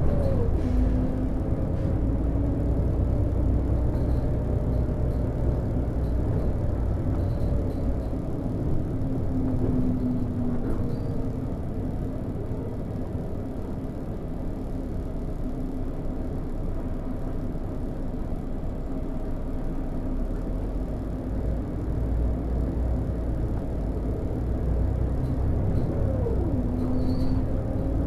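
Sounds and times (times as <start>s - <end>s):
bus diesel engine rumble: 0.0s - 28.0s.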